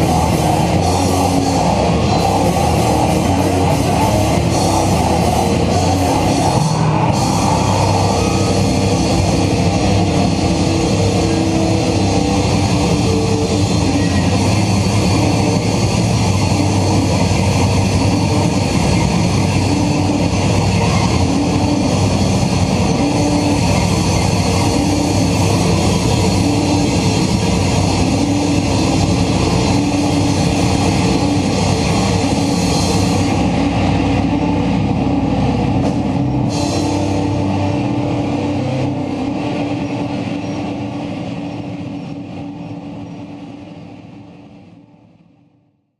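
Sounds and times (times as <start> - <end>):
metal band playing loudly: 0.0 - 41.8.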